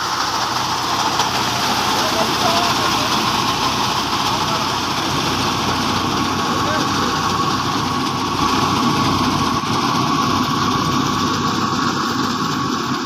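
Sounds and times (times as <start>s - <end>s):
steady high hum: 0.0s - 13.0s
tractor diesel engine running: 0.0s - 13.0s.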